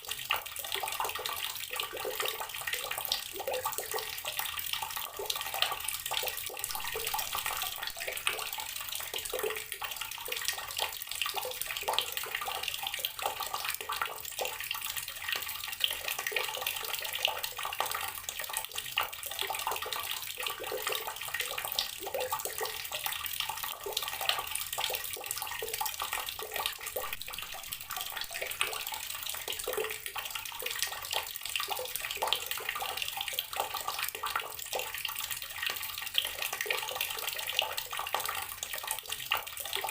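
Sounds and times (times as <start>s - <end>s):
water splashing from tap: 0.0s - 39.9s.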